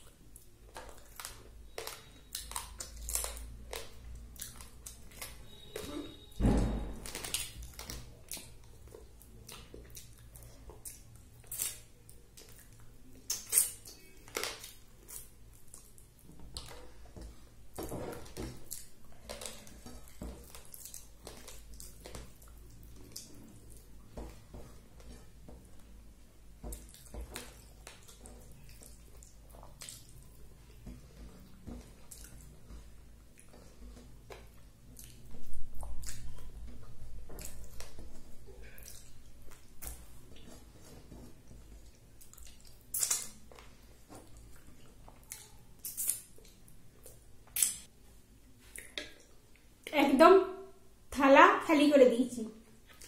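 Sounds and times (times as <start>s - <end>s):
wet chewing: 0.0s - 6.3s, 6.9s - 47.9s, 52.8s - 53.0s.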